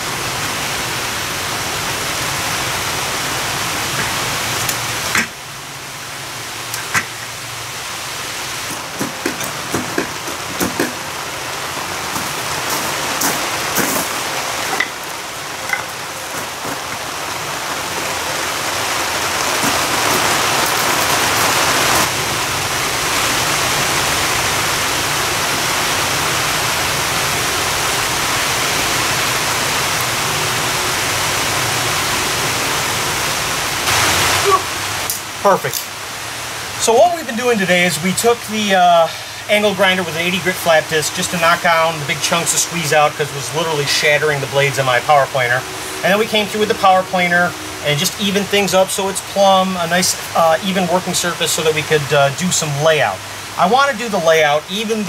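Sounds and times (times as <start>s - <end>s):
steady rushing noise: 0.0s - 52.2s.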